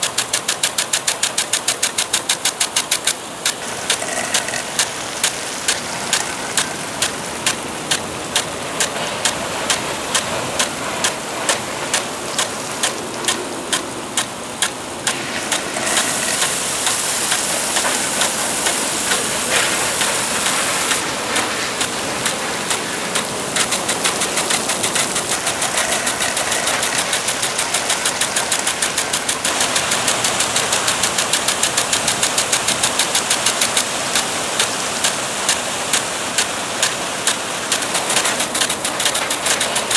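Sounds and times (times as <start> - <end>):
hiss of water spray: 0.0 - 39.9
sprinkler ticking: 0.0 - 39.9.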